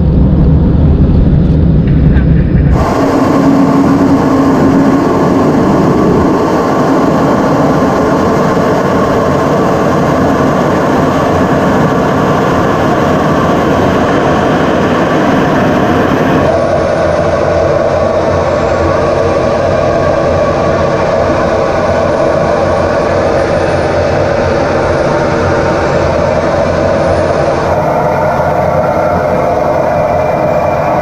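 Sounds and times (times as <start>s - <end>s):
jet engine roaring: 0.0s - 31.0s.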